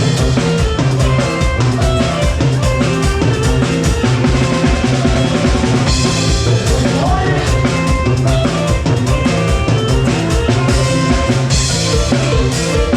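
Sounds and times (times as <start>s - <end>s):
drum kit steady beat: 0.0s - 12.9s
rock music: 0.0s - 12.9s.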